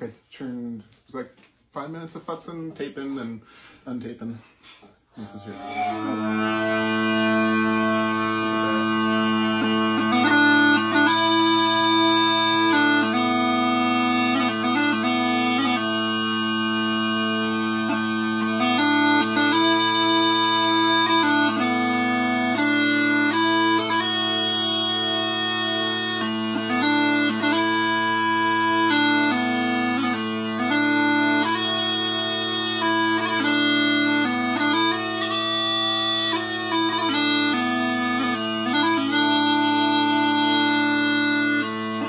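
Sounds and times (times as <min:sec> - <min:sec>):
chanter melody: 0:05.4 - 0:42.0
pipe drones: 0:05.4 - 0:42.0.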